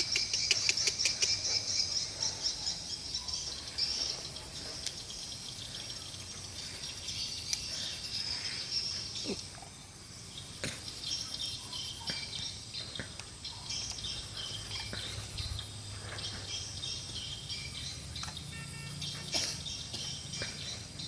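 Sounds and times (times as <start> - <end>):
birds chirping: 0.0 - 21.0
insects chirping: 0.0 - 21.0.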